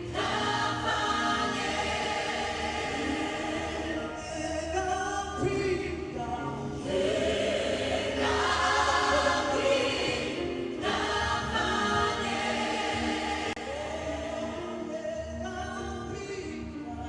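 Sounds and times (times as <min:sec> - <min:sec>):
choir singing gospel: 0:00.0 - 0:17.0.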